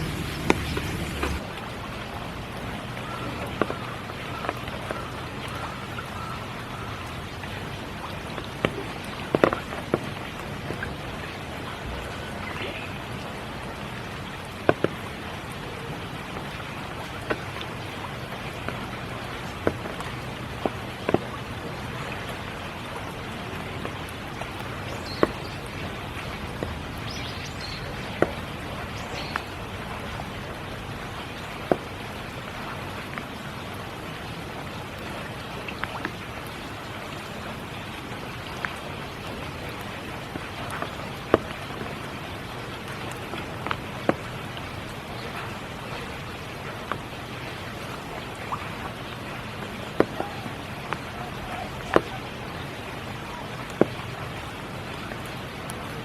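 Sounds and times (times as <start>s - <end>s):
large raindrops ticking: 0.0s - 56.0s
steady rain falling: 0.0s - 56.0s.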